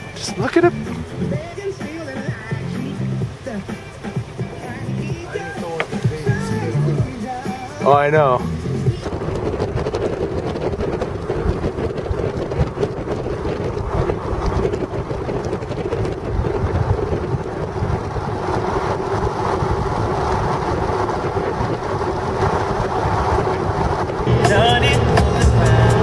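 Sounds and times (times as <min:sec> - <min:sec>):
vehicle engine humming: 0:00.0 - 0:26.0
wind buffeting microphone: 0:00.0 - 0:26.0.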